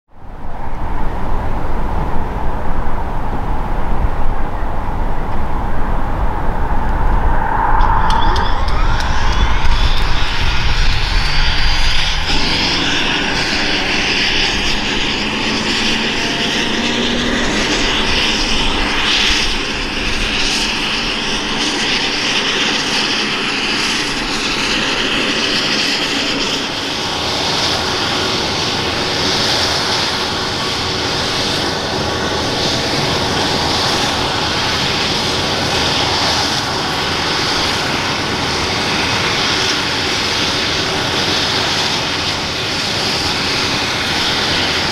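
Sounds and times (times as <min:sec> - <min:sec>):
helicopter turbine whine: 0:00.2 - 0:44.9
helicopter rotor noise: 0:00.7 - 0:44.9.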